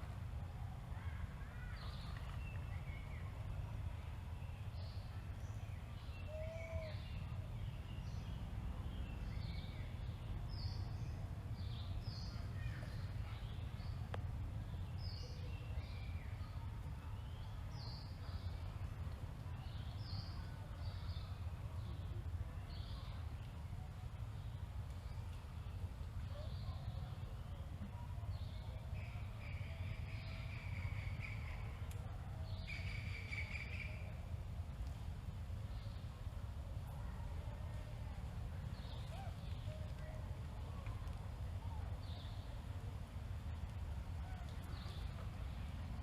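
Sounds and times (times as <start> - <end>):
steady low rumble: 7.0 - 46.0.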